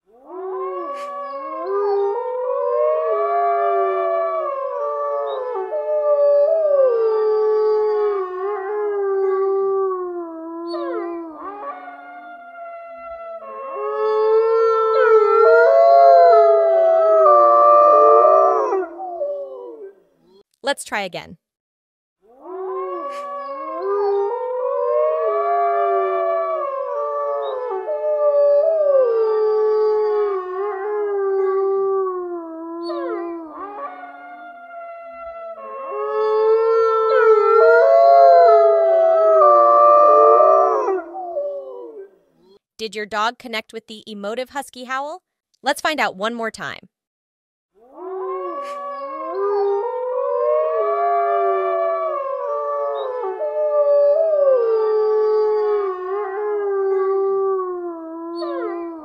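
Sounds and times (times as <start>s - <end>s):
dog howling: 0.2s - 19.9s, 22.4s - 42.1s, 47.9s - 59.0s.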